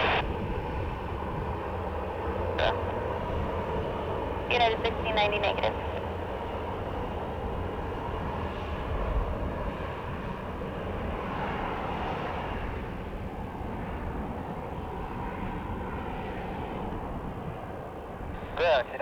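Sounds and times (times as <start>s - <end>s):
aircraft engine rush and rumble: 0.0s - 19.0s.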